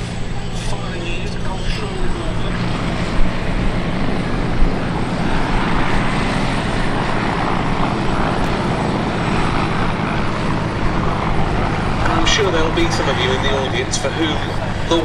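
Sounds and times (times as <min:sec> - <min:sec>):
helicopter flying past: 0:00.0 - 0:15.0.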